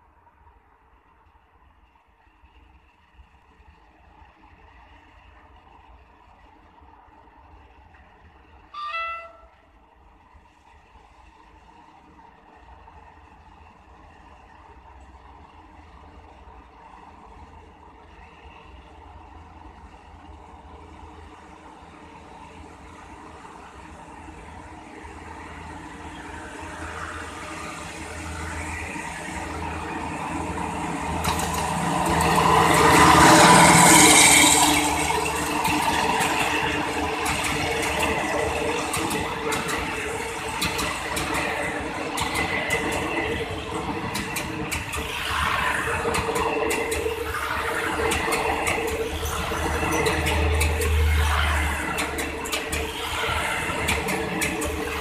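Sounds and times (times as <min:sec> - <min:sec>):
diesel locomotive engine: 0:00.0 - 0:55.0
wheels clicking over rail joints: 0:02.6 - 0:55.0.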